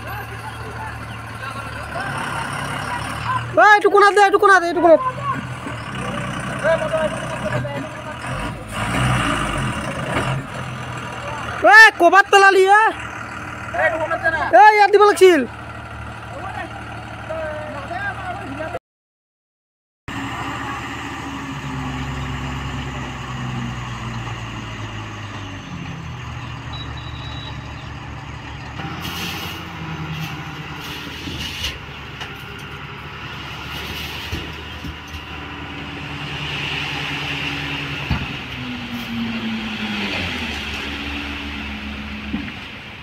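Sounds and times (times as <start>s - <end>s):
diesel truck engine revving: 0.0s - 18.8s, 20.1s - 43.0s.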